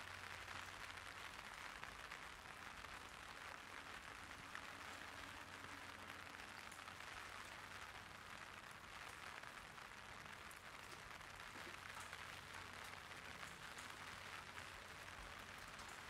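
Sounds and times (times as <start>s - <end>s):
rain on an umbrella: 0.0s - 16.0s.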